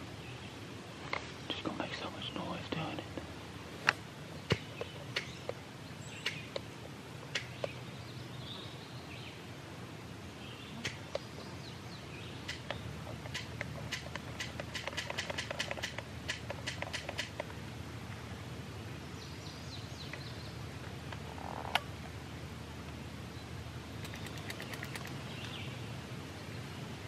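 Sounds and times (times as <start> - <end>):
faint birdsong: 0.0 - 27.0.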